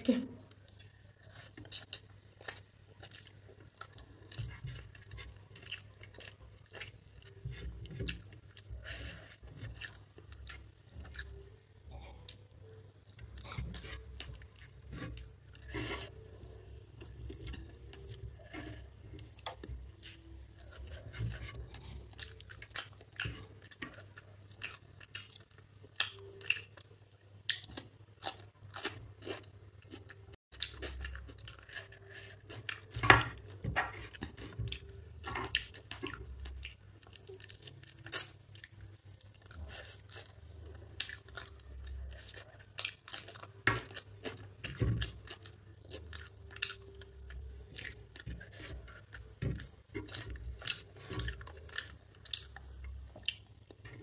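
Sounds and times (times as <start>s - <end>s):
chewing and mouth sounds: 0.5s - 54.0s.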